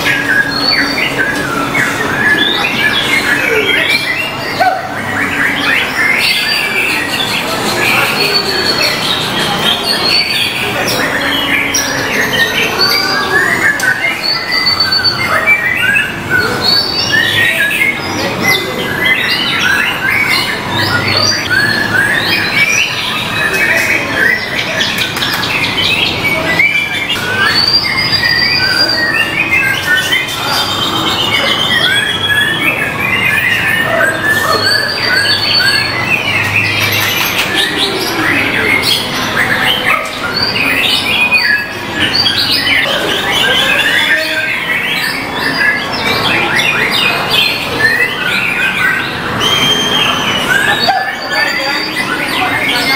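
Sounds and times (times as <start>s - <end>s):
songbirds whistling and chattering: 0.0s - 52.9s.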